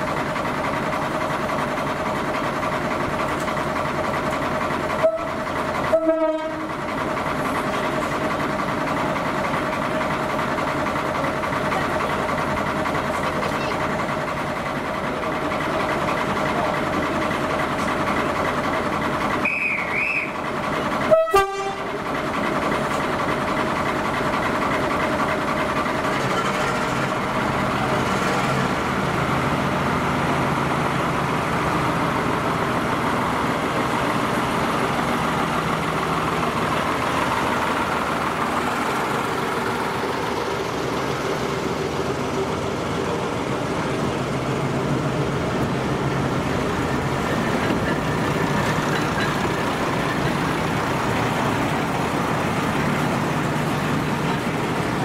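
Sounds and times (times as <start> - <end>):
locomotive diesel engine running: 0.0 - 55.0.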